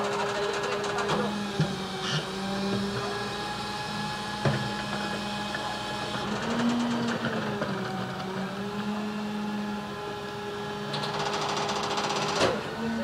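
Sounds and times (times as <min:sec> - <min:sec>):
garbage truck engine humming: 0:00.0 - 0:13.0.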